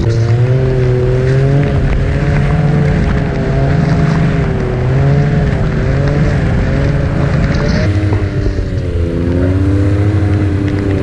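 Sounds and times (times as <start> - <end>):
snowmobile engine cruising: 0.0 - 11.0.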